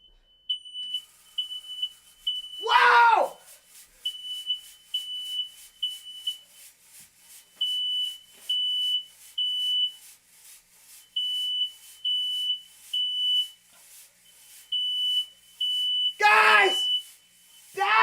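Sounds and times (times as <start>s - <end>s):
smoke alarm beeping: 0.0s - 6.7s, 7.4s - 10.0s, 11.0s - 18.0s.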